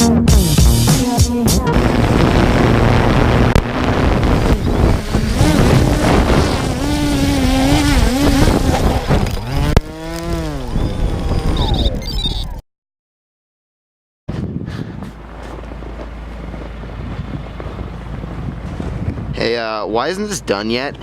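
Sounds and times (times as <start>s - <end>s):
drone propellers buzzing: 0.3s - 12.6s, 14.4s - 19.4s
wind: 1.3s - 12.6s, 14.3s - 21.0s.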